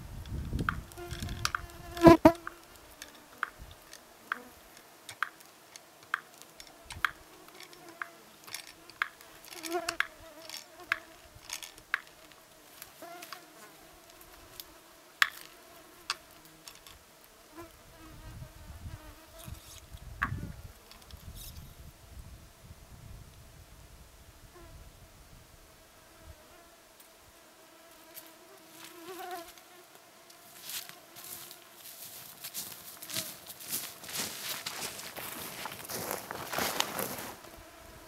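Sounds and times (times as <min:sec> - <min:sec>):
mosquitoes and flies buzzing: 0:00.7 - 0:21.6, 0:25.7 - 0:38.0.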